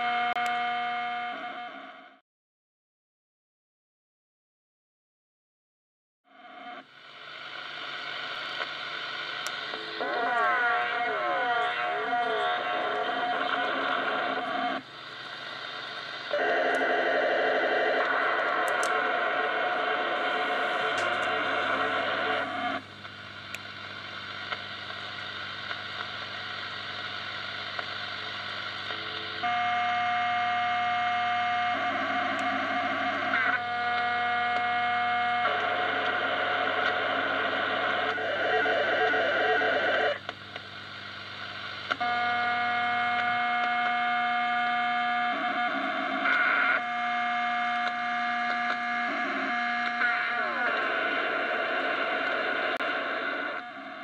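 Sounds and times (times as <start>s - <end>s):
steady radio tones: 6.4s - 54.0s
warbling radio noise: 7.5s - 54.0s.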